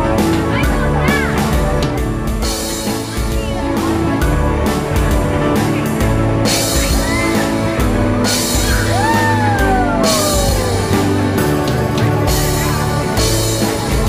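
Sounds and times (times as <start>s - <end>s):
rock music with guitar and drums: 0.0s - 14.0s.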